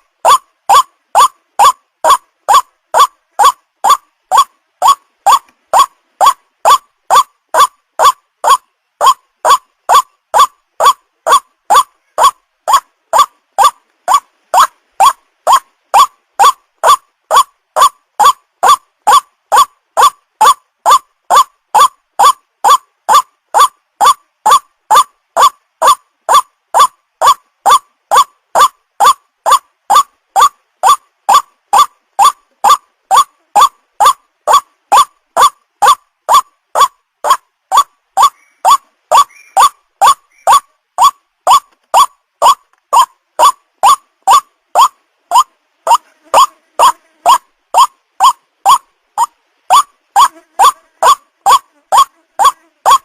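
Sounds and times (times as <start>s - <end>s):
repeated bird call note: 0.0s - 53.0s.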